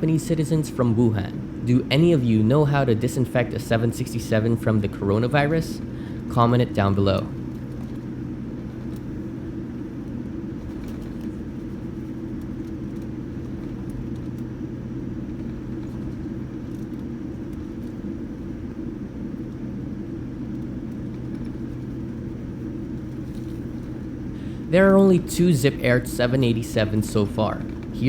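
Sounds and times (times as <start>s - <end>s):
aircraft cabin rumble: 0.0s - 28.0s
constant low hum: 0.0s - 28.0s.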